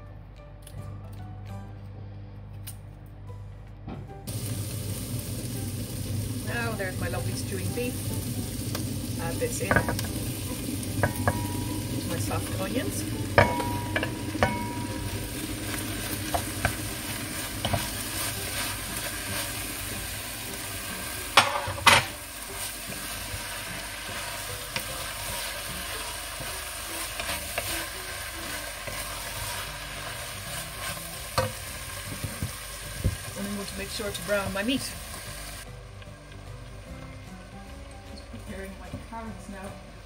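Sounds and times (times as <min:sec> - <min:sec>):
meat sizzling in a pot: 0:04.3 - 0:39.6.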